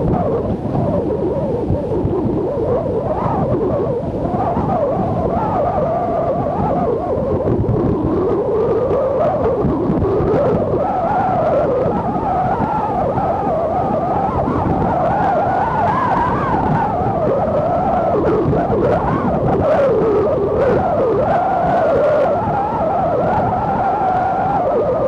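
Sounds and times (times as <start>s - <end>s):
gale wind howling: 0.0s - 25.0s.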